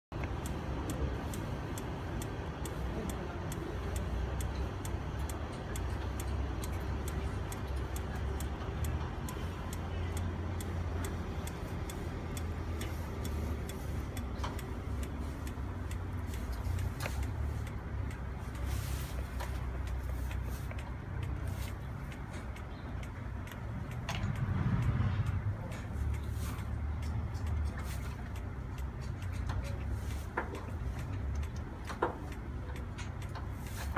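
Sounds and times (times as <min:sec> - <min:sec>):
low steady rumble: 0:00.2 - 0:33.9
machine pulsing clicks: 0:00.2 - 0:33.9.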